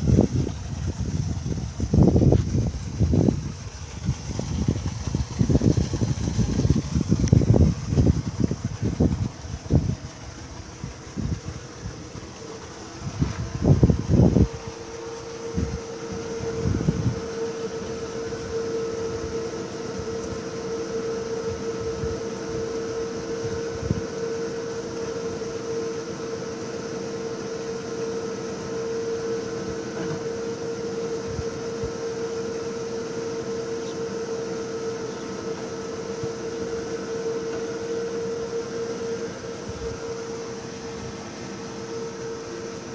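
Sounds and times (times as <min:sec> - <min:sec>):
inverter fan hum with whine: 0:00.0 - 0:42.9.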